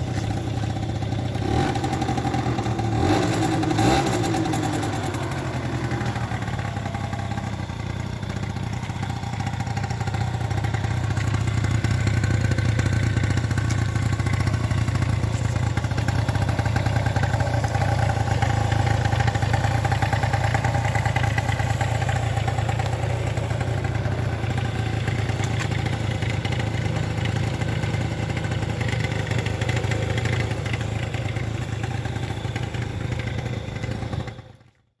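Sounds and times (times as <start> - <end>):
scooter engine idling: 0.0 - 35.0.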